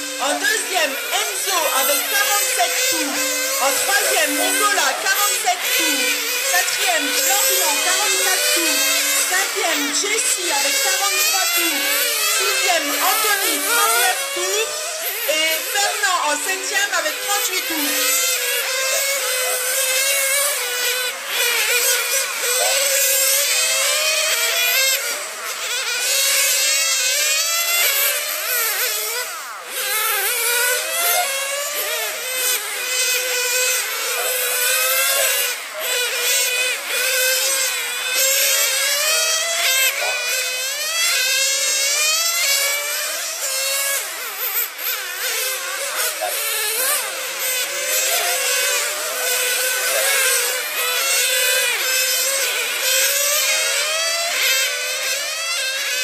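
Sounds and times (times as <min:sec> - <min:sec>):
model racing car motors whining: 0:00.0 - 0:56.0.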